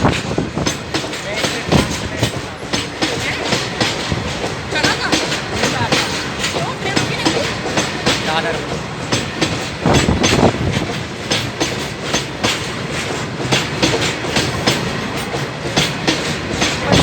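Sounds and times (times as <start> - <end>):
train rumbling: 0.0 - 17.0
train wheels clacking over rail joints: 0.0 - 17.0.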